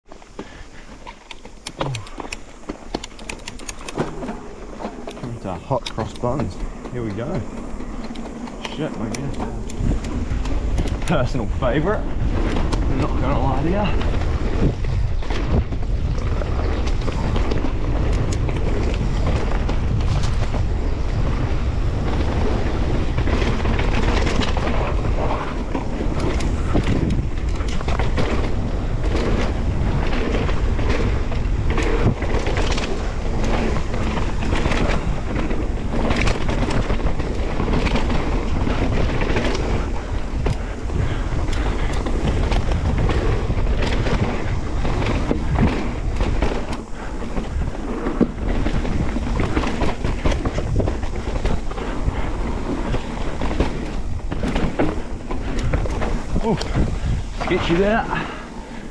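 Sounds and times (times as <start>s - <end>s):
bike clicks and rattles: 0.0s - 58.9s
wind buffeting microphone: 0.0s - 58.9s
tyres rumbling on dirt: 0.1s - 58.9s.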